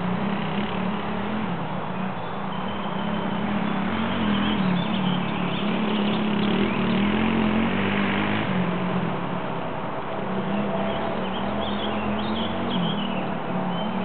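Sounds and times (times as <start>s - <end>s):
broad rushing noise: 0.0s - 14.0s.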